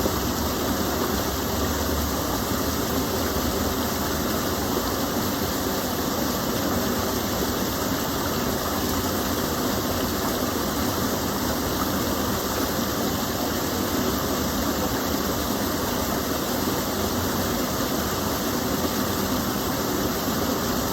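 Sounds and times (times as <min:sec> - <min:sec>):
small waterfall rushing: 0:00.0 - 0:20.9.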